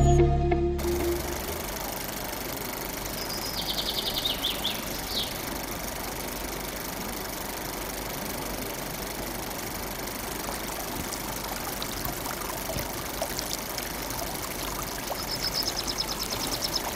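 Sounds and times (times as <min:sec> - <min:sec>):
small motor running: 0:00.8 - 0:16.9.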